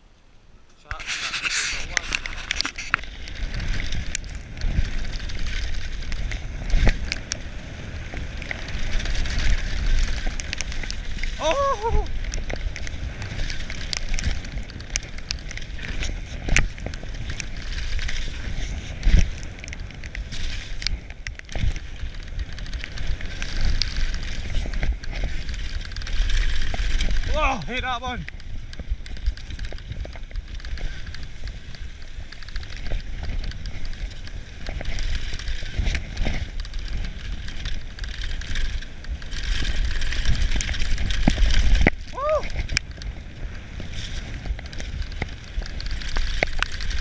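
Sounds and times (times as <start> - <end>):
bike tyres rolling on dirt: 0.0 - 47.0
bike clicks and rattles: 0.9 - 47.0
wind buffeting microphone: 0.9 - 47.0.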